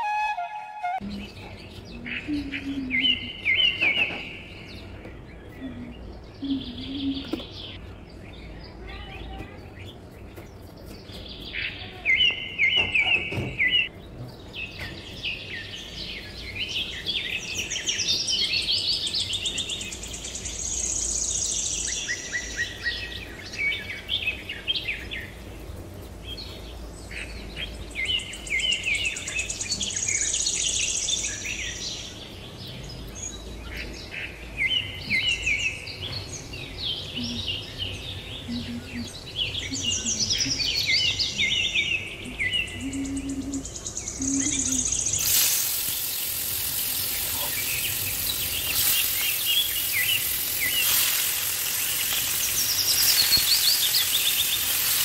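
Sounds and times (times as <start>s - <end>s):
birds chirping: 0.0s - 55.0s
low background hum: 1.0s - 53.4s.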